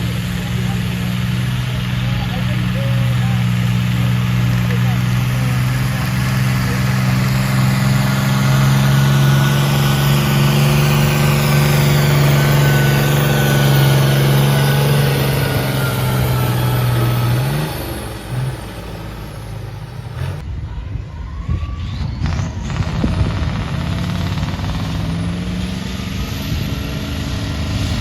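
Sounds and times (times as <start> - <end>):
tractor engine running hard: 0.0 - 20.6, 21.8 - 28.0.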